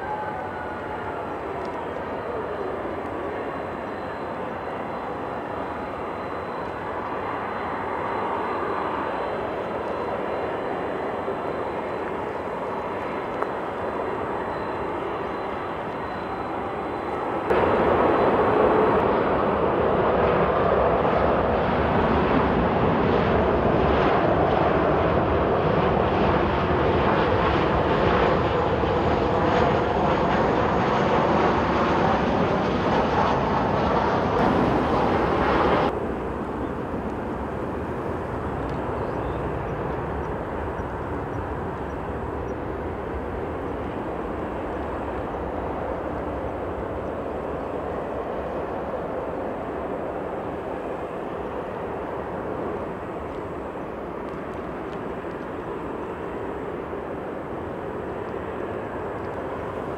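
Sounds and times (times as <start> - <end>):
jet engine noise: 0.0 - 59.9.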